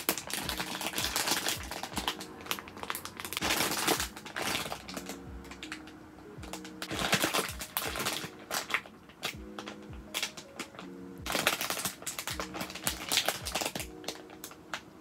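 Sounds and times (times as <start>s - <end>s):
plastic packaging crinkling: 0.0s - 15.0s
soft background music: 0.0s - 15.0s.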